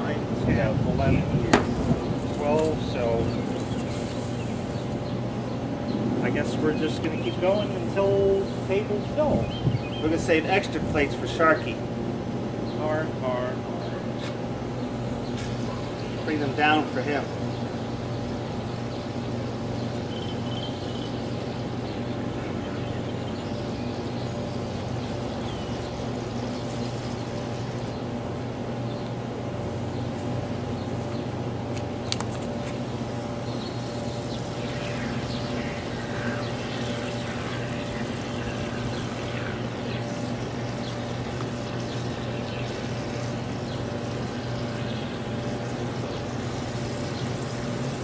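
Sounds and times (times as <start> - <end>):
machine hum with held tones: 0.0 - 48.0.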